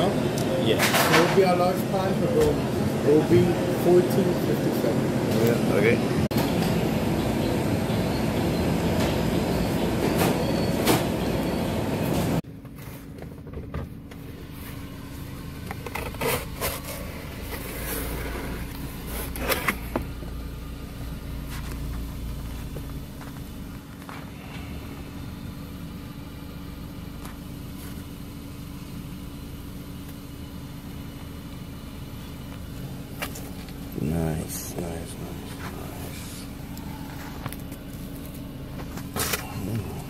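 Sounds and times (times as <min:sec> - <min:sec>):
car engine humming inside cabin: 0:01.4 - 0:40.0.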